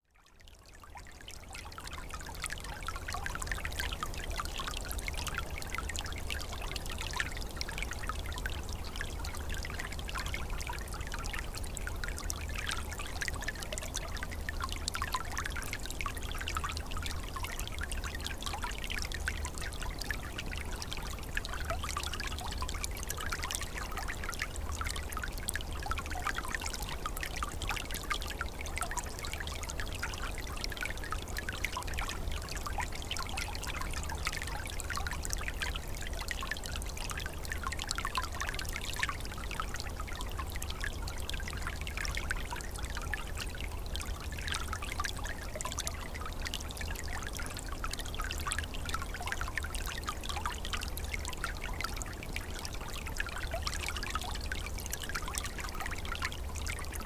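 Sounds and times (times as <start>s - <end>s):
small stream trickling: 0.0s - 57.0s.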